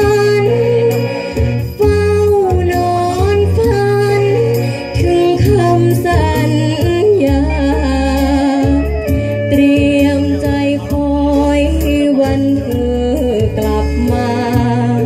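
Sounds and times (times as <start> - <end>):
song through stage loudspeakers: 0.0 - 15.0.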